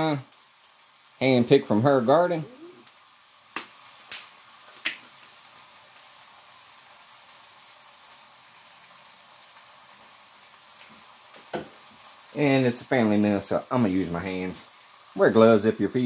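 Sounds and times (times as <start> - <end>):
chicken sizzling on griddle: 0.0 - 16.0.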